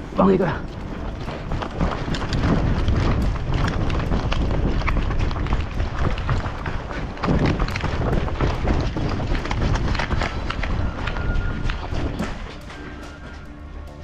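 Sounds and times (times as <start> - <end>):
running footsteps: 0.0 - 14.0
wind buffeting microphone: 0.0 - 14.0.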